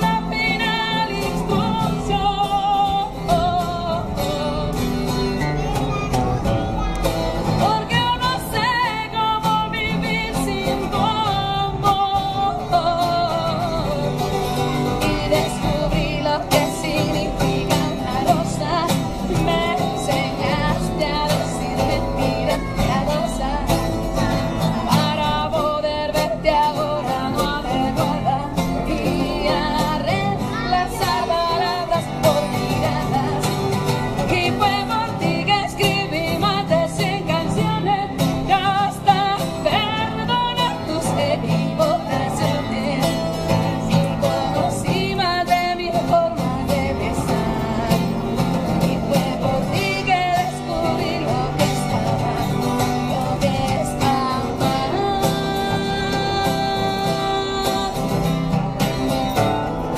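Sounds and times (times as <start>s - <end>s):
woman singing with vibrato: 0.0s - 5.8s, 6.4s - 59.9s
acoustic guitar: 0.0s - 59.9s.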